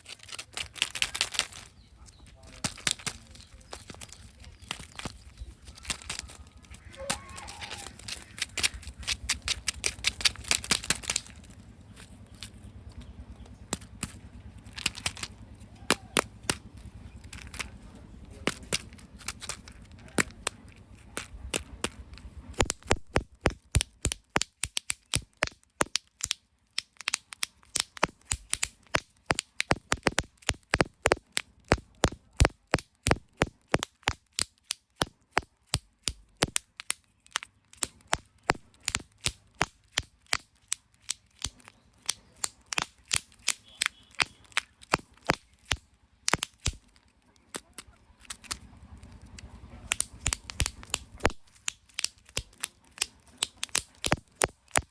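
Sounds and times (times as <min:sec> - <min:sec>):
plastic eggs cracking and snapping: 0:00.0 - 0:54.9.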